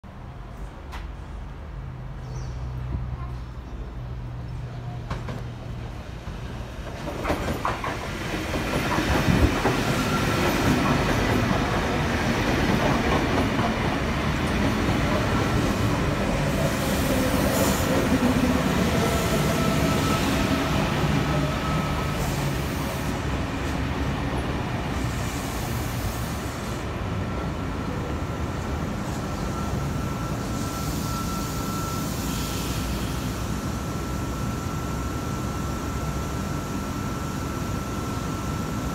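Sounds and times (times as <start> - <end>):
electric train rumbling: 4.0 - 38.9.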